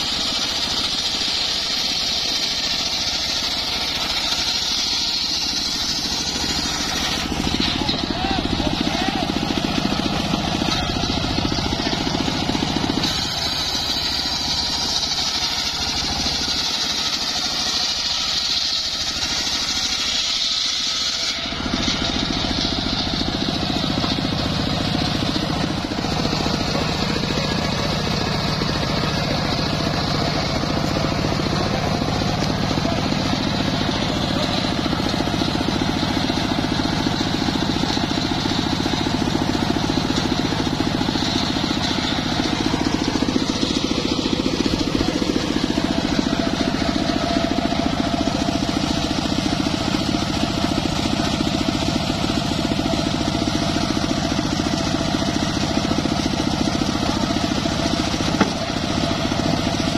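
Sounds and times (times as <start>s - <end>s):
circular saw cutting a log: 0.0s - 59.9s.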